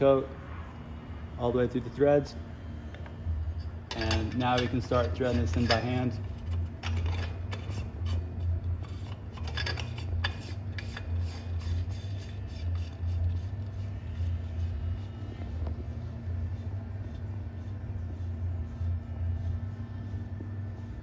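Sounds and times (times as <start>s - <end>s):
steady low hum: 0.0s - 21.0s
threads rubbing: 3.4s - 21.0s.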